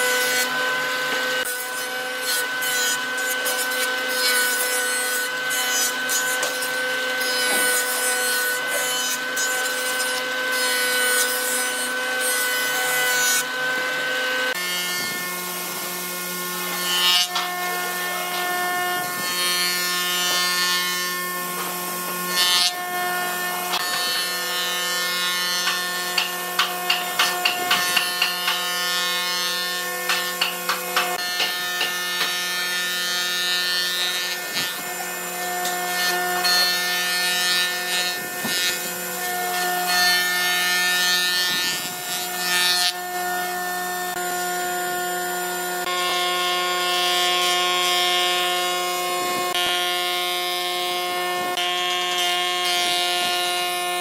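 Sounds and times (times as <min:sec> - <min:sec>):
jointer motor whine: 0:00.0 - 0:54.0.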